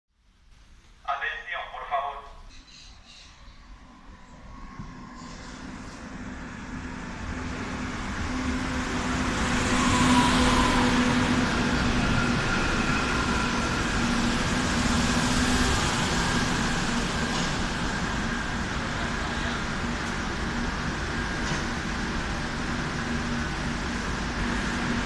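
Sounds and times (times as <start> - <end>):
metro train pulling into station: 0.3 - 25.0.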